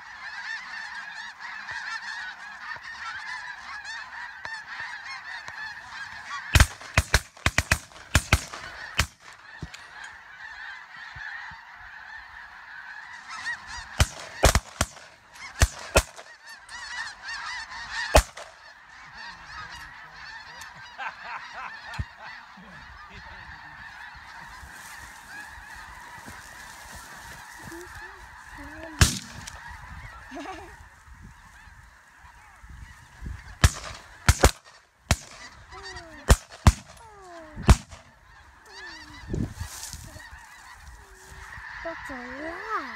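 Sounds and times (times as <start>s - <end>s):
geese honking: 0.0s - 42.9s.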